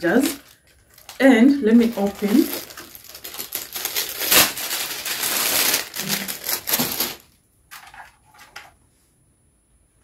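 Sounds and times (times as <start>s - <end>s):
plastic wrapping crinkling: 0.0s - 8.7s.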